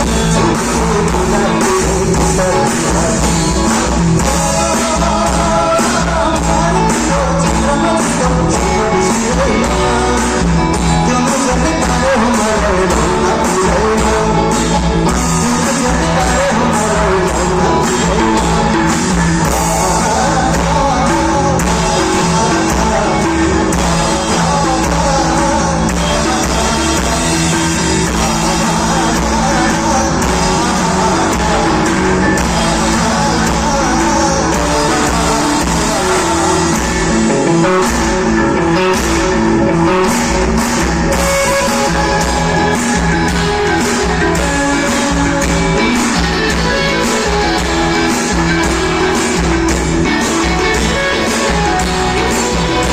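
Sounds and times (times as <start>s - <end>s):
person singing: 0.0s - 52.9s
rock band playing: 0.0s - 52.9s.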